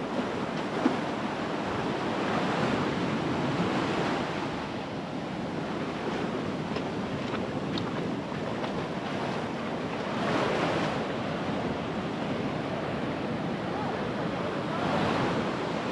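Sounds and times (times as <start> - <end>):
surf washing onto beach: 0.0 - 15.9
wind on microphone: 0.0 - 15.9.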